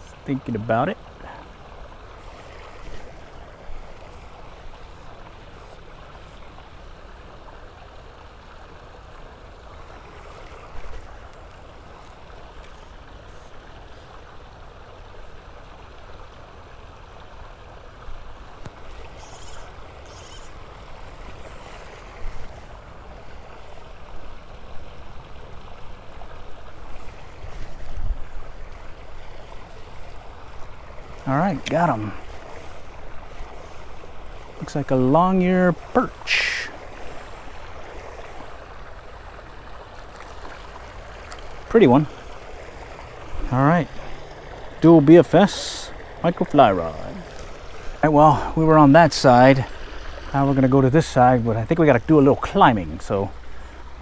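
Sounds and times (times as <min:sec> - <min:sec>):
creek water flowing: 0:00.0 - 0:54.0.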